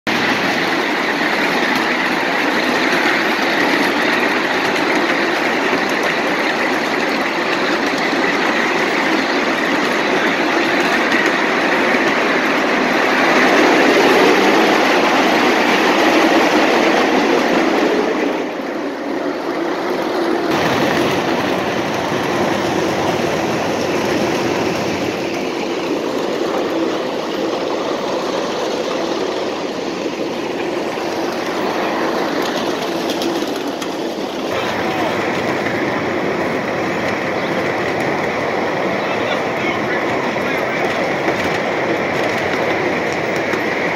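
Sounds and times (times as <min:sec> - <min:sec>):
train wheels on rails: 0:00.1 - 0:43.9.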